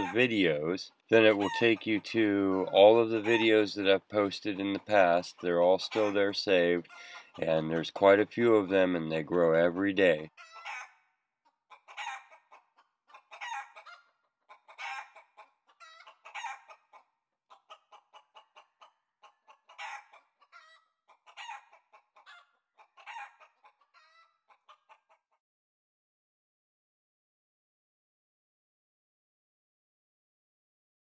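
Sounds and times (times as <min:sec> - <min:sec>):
chickens clucking: 0:00.0 - 0:25.4.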